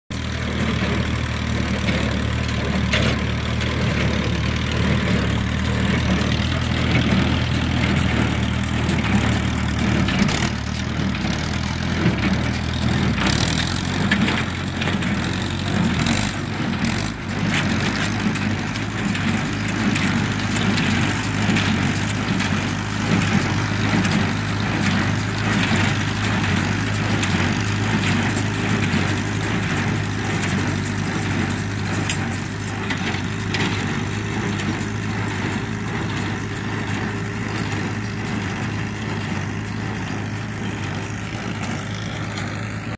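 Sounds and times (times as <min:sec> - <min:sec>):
tractor engine running: 0:00.1 - 0:42.9.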